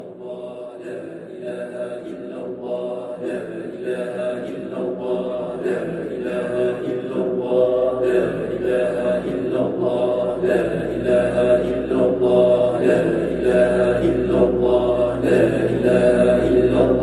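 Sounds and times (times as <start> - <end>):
droning mantra-like chanting: 0.0 - 17.0.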